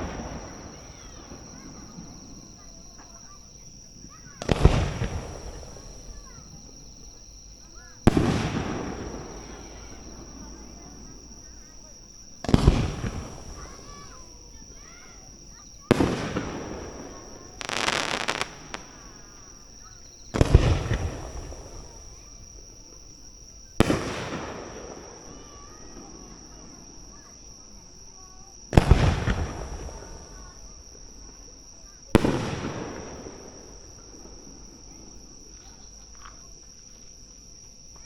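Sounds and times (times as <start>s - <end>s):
fireworks booming: 0.0s - 27.3s, 28.7s - 31.5s, 32.1s - 35.8s
high insect trill: 0.0s - 38.0s.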